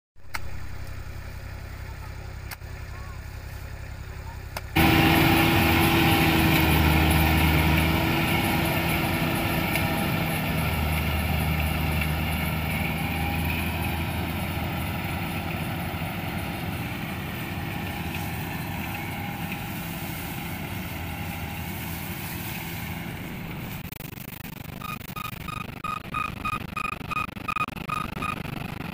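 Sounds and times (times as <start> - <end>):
diesel engine running: 0.2 - 28.9.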